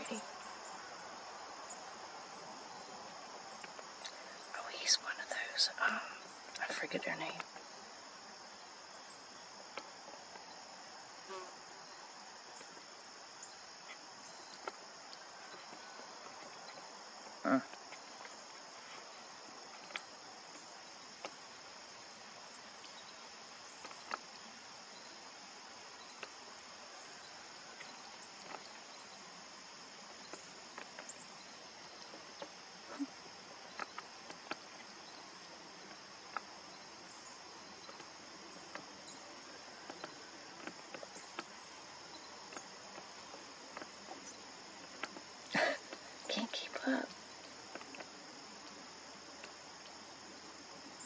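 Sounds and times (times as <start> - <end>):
crickets trilling: 0.0 - 51.0.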